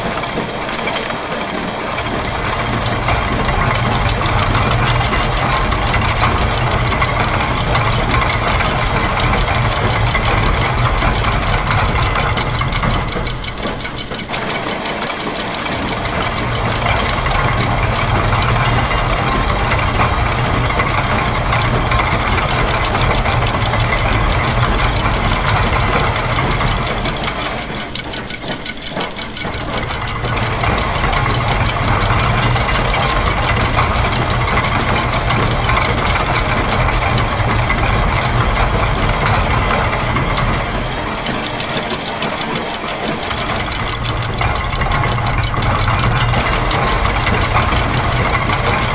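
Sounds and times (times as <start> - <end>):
gears and ratchets clattering: 0.0 - 48.9
low mechanical rumble: 2.0 - 28.3, 29.4 - 48.9.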